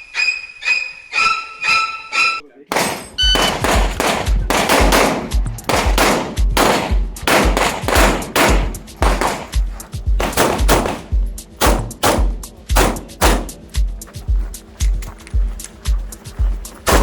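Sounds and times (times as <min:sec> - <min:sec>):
music with heavy steady beat: 0:03.2 - 0:17.0.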